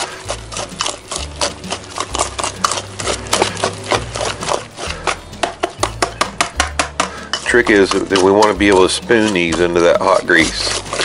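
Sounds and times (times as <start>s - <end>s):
whisk clicking against metal bowl: 0.0s - 11.0s.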